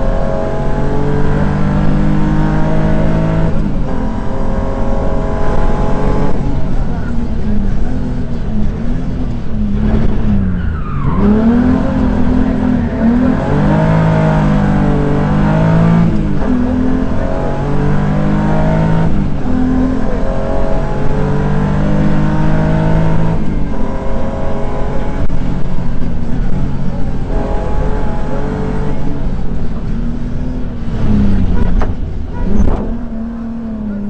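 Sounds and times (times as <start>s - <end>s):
car engine revving: 0.0s - 34.0s
road noise: 0.0s - 34.0s.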